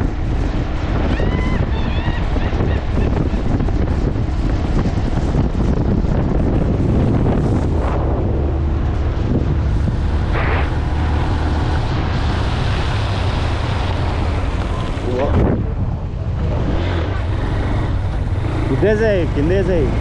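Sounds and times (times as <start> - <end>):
motorcycle engine hum: 0.0 - 20.0
wind rushing over microphone: 0.0 - 20.0.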